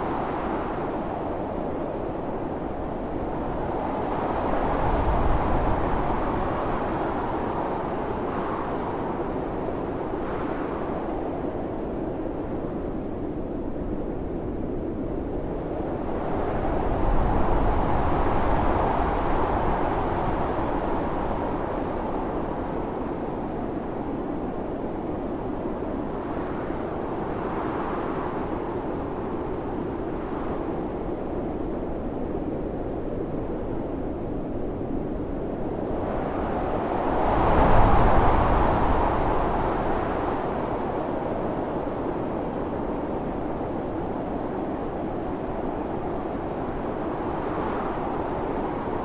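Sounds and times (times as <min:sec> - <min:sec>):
deep wind rumble: 0:00.0 - 0:49.0
strong blizzard wind blowing: 0:00.0 - 0:49.0.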